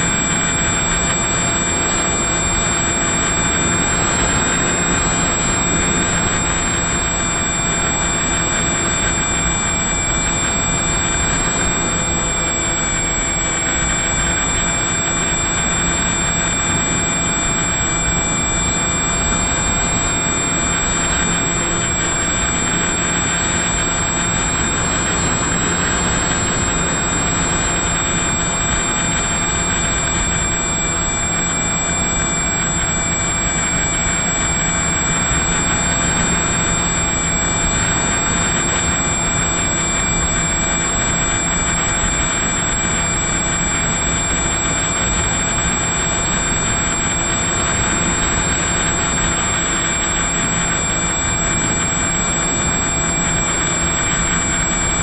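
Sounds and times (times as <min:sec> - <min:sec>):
electric motor propeller whine: 0:00.0 - 0:55.0.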